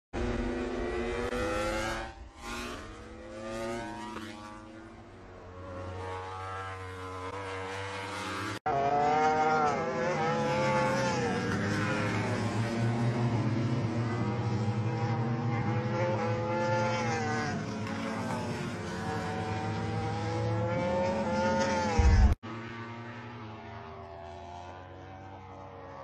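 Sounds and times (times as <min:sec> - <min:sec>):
motorcycle engine revving: 0:00.2 - 0:26.0.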